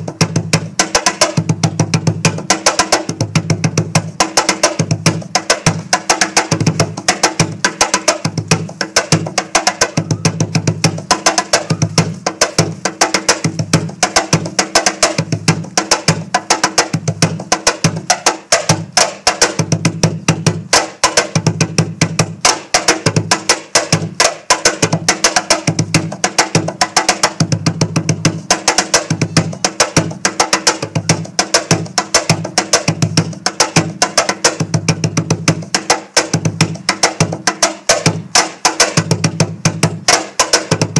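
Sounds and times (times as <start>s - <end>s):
box drum played by hand: 0.0s - 40.9s.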